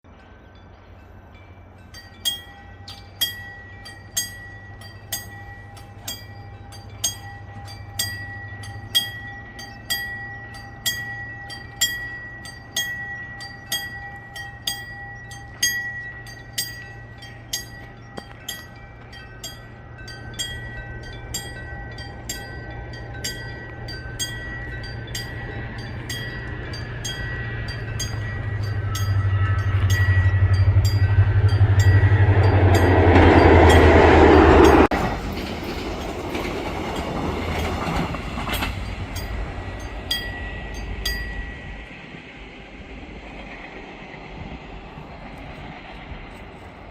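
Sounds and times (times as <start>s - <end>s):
level crossing warning bell: 0.1s - 42.0s
approaching train rumble: 0.1s - 46.9s.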